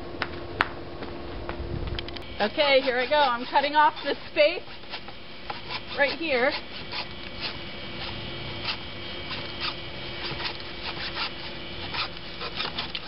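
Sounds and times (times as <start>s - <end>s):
knife scraping strokes: 2.4s - 13.0s.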